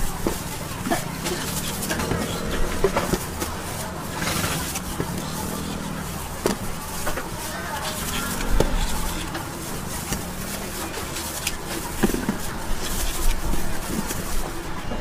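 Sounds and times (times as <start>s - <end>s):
indistinct background voices: 0.0s - 15.0s.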